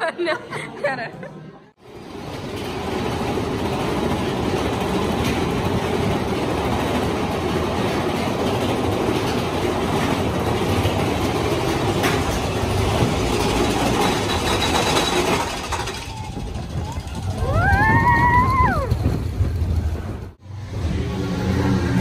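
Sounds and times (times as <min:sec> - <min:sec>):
roller coaster wheels rumbling: 0:01.8 - 0:22.0.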